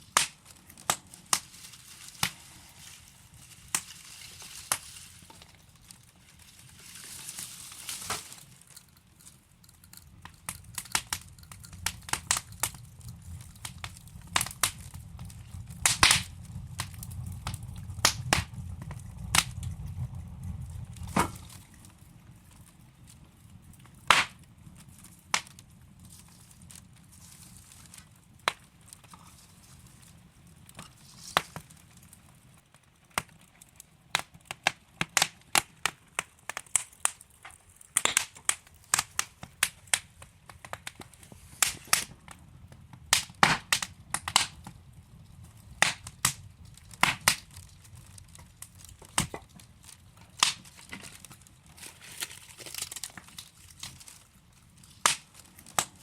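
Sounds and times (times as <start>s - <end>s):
burning logs crackling and popping: 0.0s - 56.0s
fire flames rumbling: 0.0s - 56.0s.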